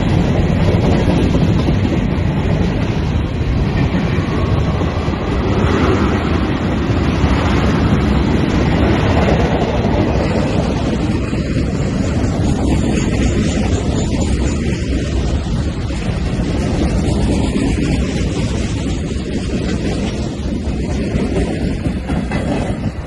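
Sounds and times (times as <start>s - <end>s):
freight train rumbling: 0.0s - 23.0s
wind buffeting microphone: 0.0s - 23.0s.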